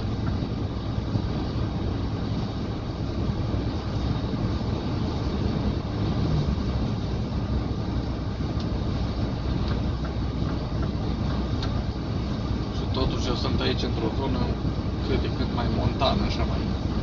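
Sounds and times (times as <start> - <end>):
truck engine and road drone: 0.0 - 17.0.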